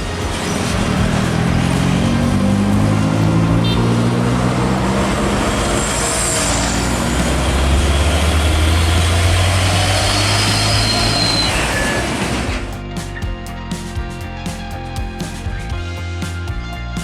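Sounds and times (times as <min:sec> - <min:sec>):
truck engine rumbling: 0:00.0 - 0:16.5.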